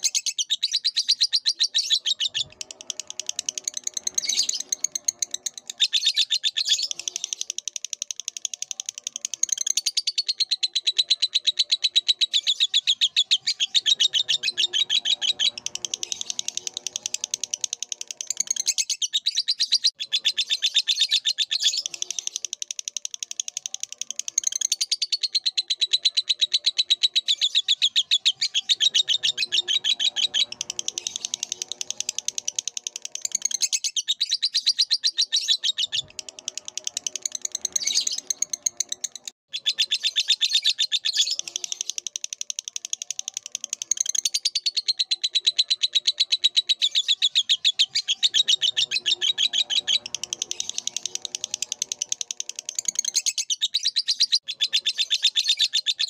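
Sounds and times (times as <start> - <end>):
bird chattering: 0.0 - 56.0
bird singing high chirps: 0.0 - 56.0.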